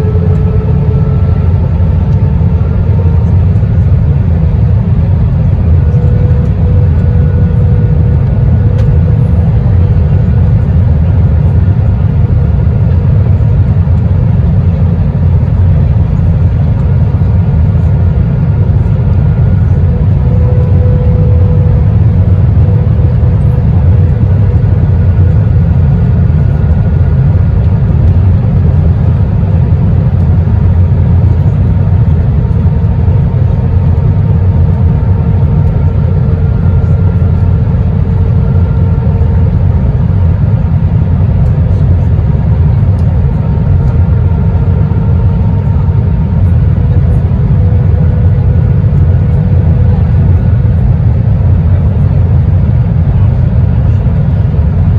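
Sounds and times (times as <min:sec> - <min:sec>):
airplane cabin rumble: 0:00.0 - 0:54.9
faint engine tones: 0:00.0 - 0:54.9.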